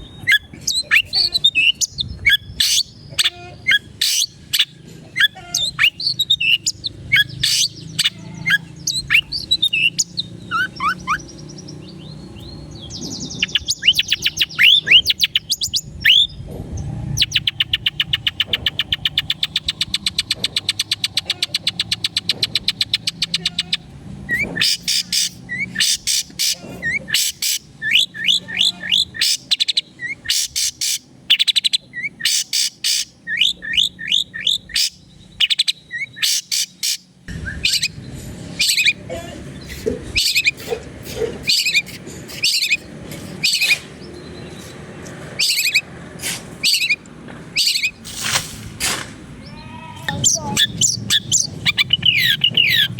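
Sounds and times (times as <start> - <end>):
shrike singing: 0.0 - 16.4, 17.2 - 46.0, 49.3 - 52.9.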